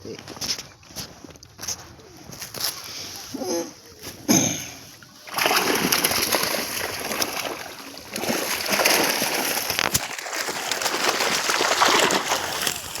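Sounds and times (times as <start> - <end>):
water splashing and sloshing: 0.4 - 13.0.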